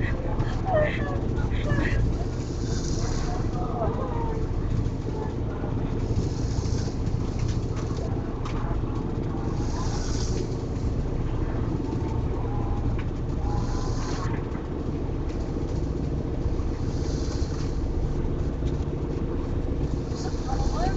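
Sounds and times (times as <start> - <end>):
engine droning: 0.0 - 20.9.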